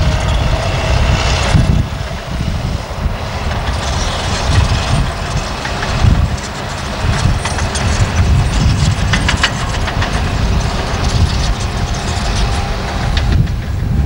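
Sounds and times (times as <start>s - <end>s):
diesel engine rumble: 0.0s - 14.0s
steel tracks clanking and squeaking: 0.0s - 14.0s.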